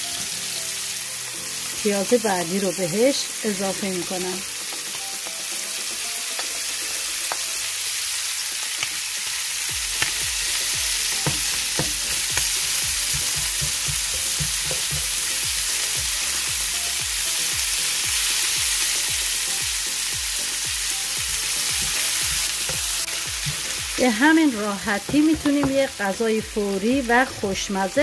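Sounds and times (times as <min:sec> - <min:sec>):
liver and onion sizzling in oil: 0:00.0 - 0:28.0.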